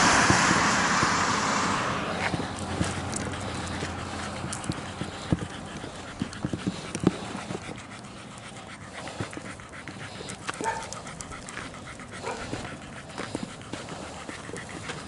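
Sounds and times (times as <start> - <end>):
small dog panting: 0.0 - 15.0.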